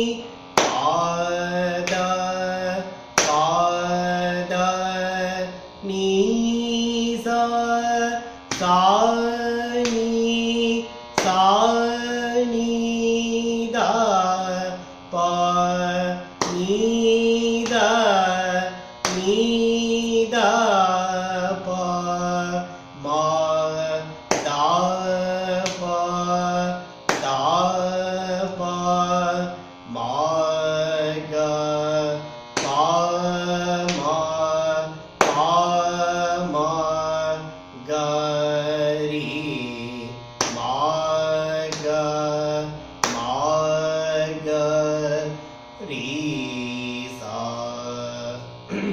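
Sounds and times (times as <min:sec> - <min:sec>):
man singing scale exercise: 0:00.0 - 0:48.9.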